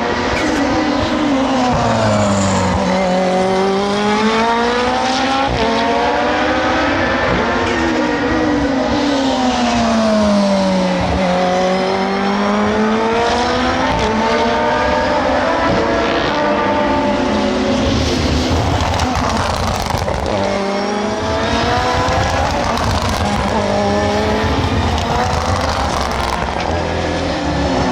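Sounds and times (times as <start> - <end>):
race cars passing at speed: 0.0 - 27.9.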